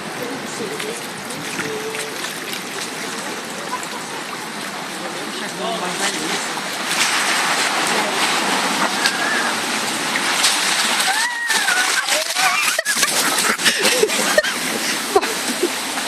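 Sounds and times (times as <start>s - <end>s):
seawater rushing and splashing: 0.0s - 16.0s.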